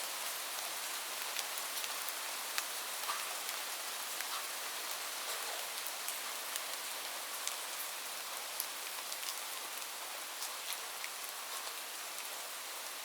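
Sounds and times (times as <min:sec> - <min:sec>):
rain falling on a roof: 0:00.0 - 0:13.0.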